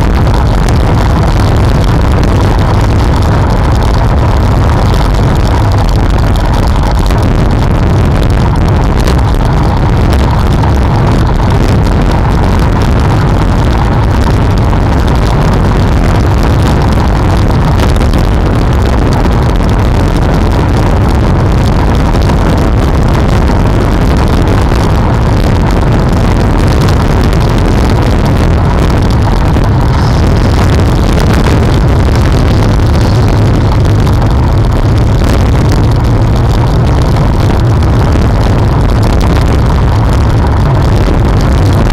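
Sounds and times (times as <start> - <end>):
wind rumble on microphone: 0.0 - 41.9.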